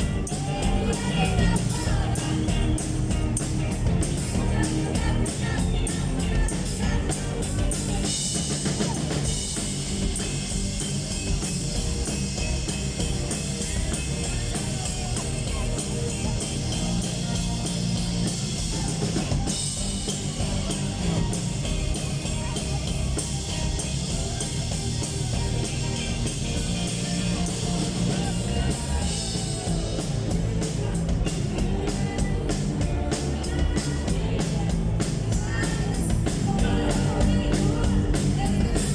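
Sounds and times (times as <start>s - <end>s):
drum kit and cymbals: 0.0s - 38.9s
rock band playing: 0.0s - 38.9s.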